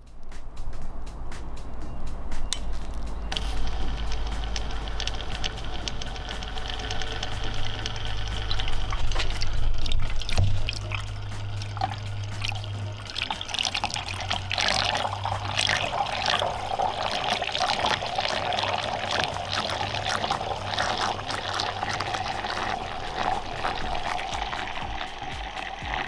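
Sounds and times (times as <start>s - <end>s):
stirrer motor steady tone: 3.2s - 26.0s
water churning and splashing: 3.3s - 26.0s.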